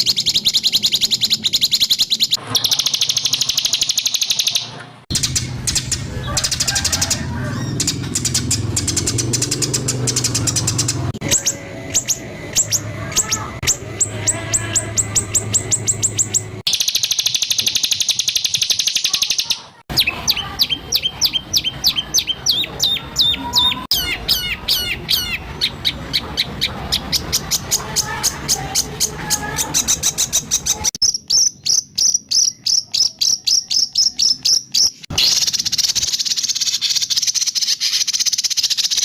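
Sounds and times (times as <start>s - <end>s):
bird song sharp repeated notes: 0.0s - 39.0s.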